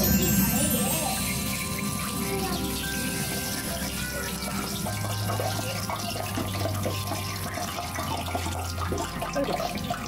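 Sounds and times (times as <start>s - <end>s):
oil sizzling and crackling: 0.0s - 10.0s.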